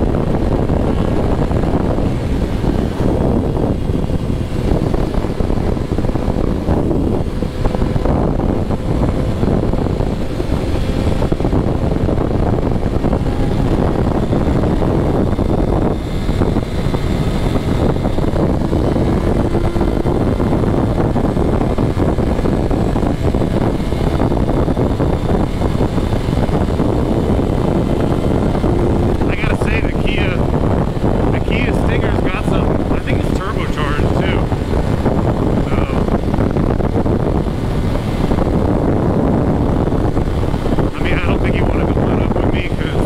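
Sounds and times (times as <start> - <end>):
motorcycle engine at speed: 0.0 - 43.0
wind rushing: 0.0 - 43.0.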